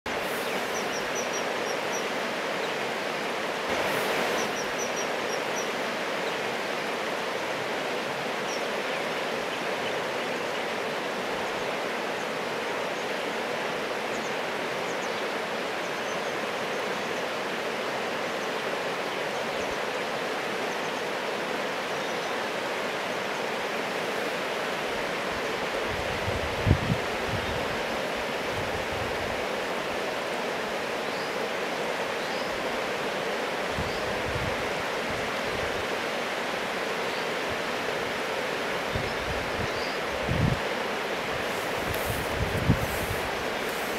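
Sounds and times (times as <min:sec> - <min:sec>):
river water rushing over stones: 0:00.1 - 0:26.2, 0:26.9 - 0:43.9.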